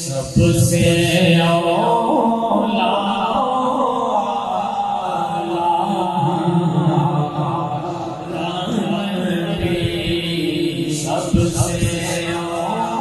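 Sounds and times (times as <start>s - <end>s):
man chanting through loudspeakers: 0.0s - 13.0s.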